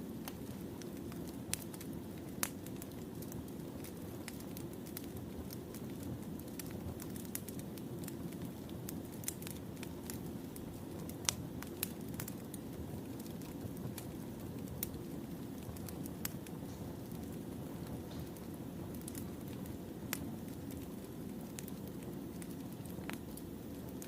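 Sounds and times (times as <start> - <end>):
burning logs crackling and popping: 0.0 - 24.0
low rush of flame: 0.0 - 24.0.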